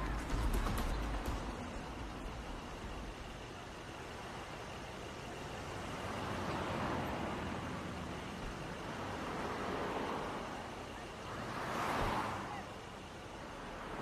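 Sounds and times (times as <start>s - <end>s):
cars passing by: 0.0s - 14.0s.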